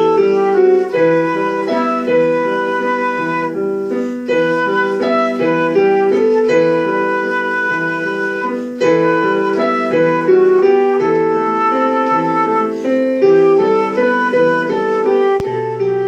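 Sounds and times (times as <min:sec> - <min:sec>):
flute melody: 0:00.0 - 0:16.0
piano accompaniment: 0:00.0 - 0:16.0.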